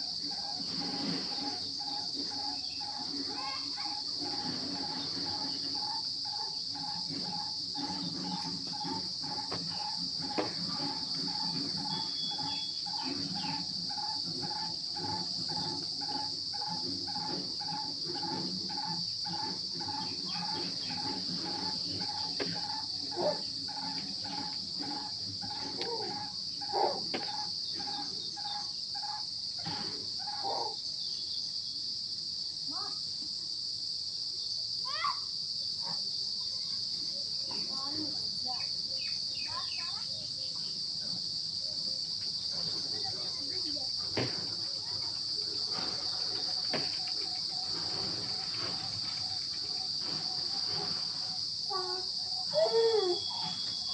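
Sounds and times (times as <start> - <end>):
high insect chirring: 0.0 - 33.0, 33.8 - 53.9.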